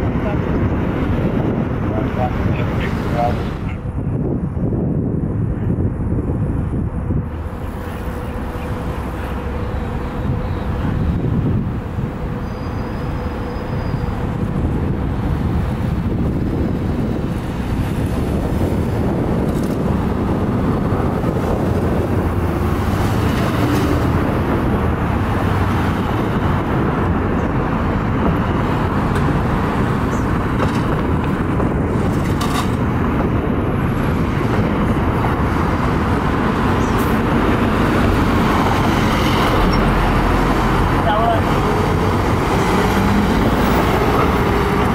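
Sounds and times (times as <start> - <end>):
engines and road traffic rumble: 0.0 - 44.9.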